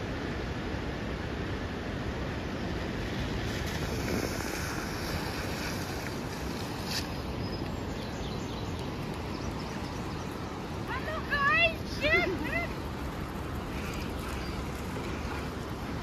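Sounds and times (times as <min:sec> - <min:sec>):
road noise in moving vehicle: 0:00.0 - 0:16.0
wind buffeting microphone: 0:03.1 - 0:16.0.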